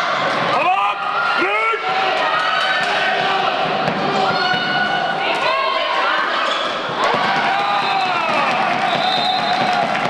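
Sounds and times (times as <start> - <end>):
crowd cheering and shouting: 0.0 - 10.0.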